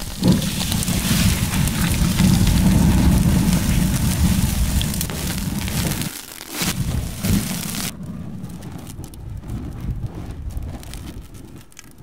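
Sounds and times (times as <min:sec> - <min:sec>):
dense rumbling crackling noise: 0:00.0 - 0:12.0.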